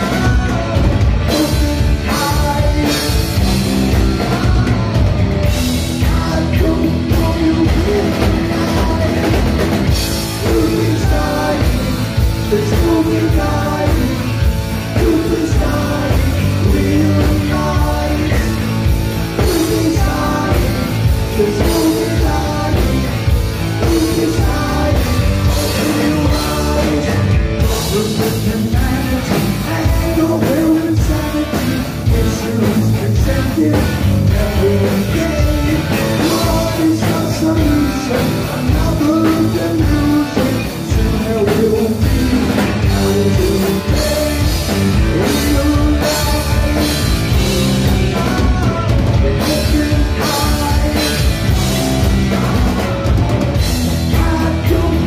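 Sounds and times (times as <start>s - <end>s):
person singing: 0.0s - 5.1s, 5.8s - 55.0s
drum kit: 0.0s - 55.0s
electric guitar: 0.0s - 55.0s.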